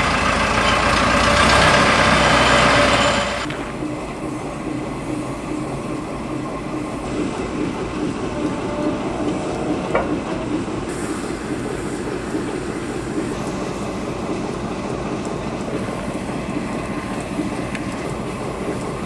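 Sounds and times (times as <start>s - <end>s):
steam locomotive hiss and rumble: 0.0s - 19.0s.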